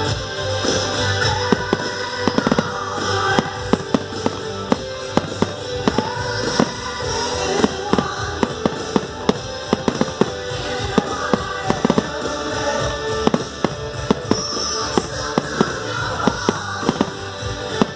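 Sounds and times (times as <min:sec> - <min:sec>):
fireworks banging: 0:00.0 - 0:17.9
music playing: 0:00.0 - 0:17.9.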